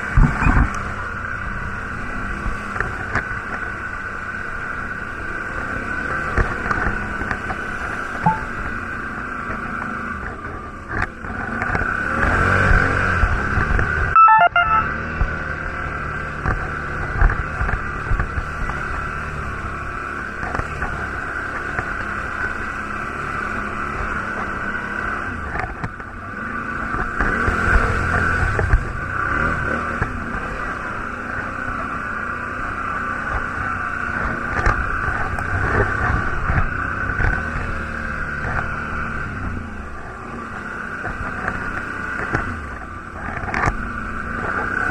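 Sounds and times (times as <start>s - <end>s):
quad bike engine revving: 0.0s - 14.2s, 14.8s - 44.9s.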